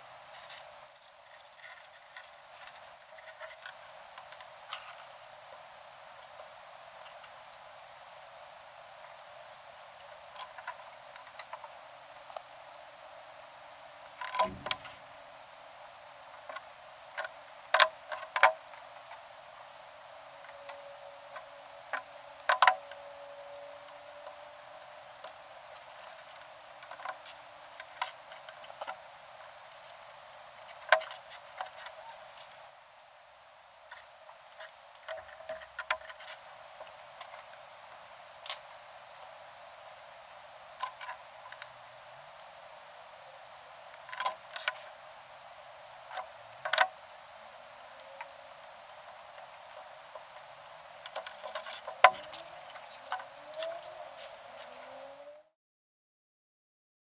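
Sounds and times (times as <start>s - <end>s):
faint steady hiss: 0.0s - 55.6s.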